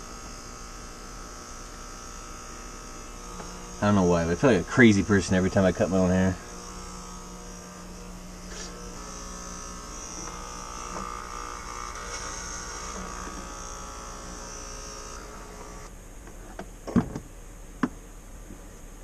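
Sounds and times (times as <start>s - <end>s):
electric hair clippers buzzing: 0.0s - 15.9s.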